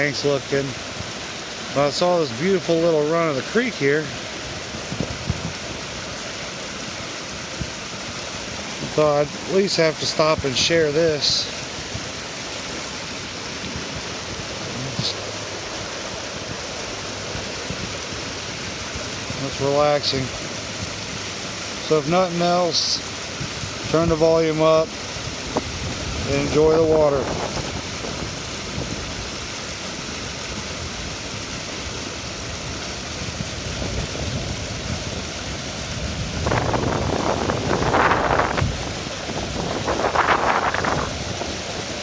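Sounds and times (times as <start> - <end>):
creek water flowing: 0.0 - 42.0.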